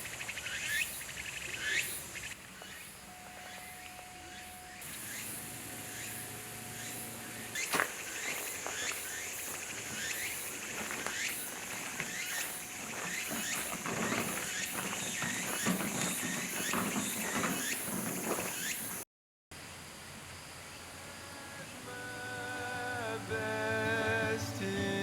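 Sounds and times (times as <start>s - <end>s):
insects chirring: 0.0s - 19.0s, 19.6s - 24.8s.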